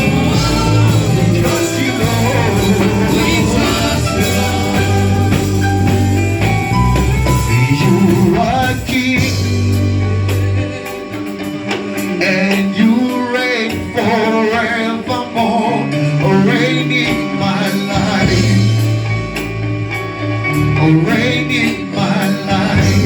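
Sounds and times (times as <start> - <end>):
gospel singing over live band: 0.0 - 23.0.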